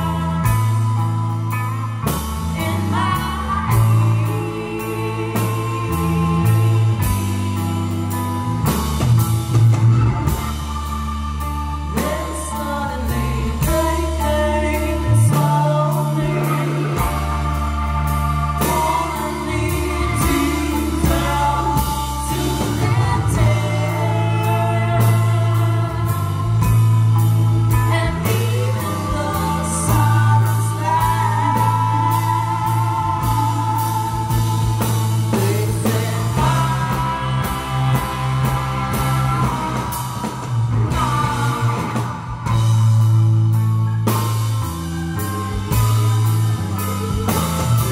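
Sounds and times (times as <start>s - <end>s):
rock band playing: 0.0s - 47.9s
woman singing lead: 0.0s - 47.9s.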